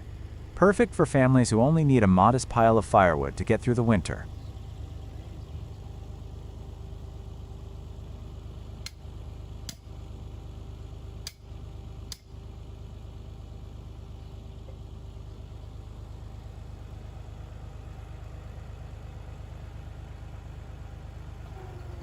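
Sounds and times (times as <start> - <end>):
firewood splitter motor humming: 0.0 - 22.0.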